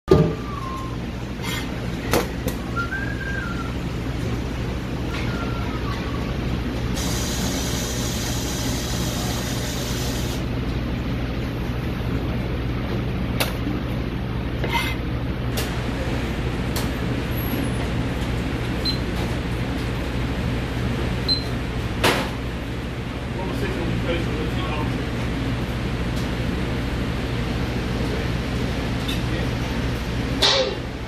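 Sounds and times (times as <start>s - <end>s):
low machinery hum: 0.1s - 31.0s.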